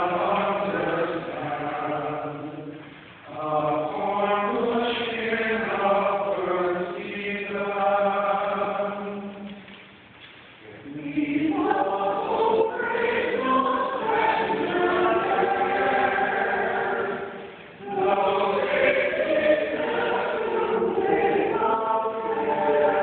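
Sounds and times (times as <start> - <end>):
choir singing a hymn: 0.0 - 9.5, 10.6 - 23.0.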